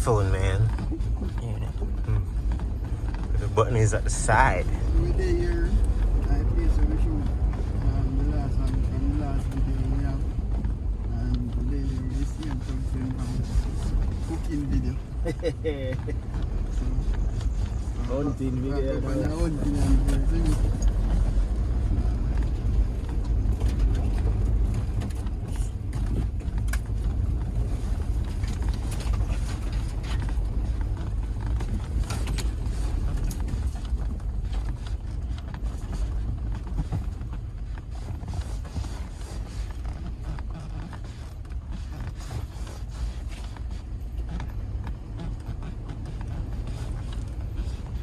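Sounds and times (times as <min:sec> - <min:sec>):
creaks and rattles: 0:00.0 - 0:48.0
vehicle low rumble: 0:00.0 - 0:48.0.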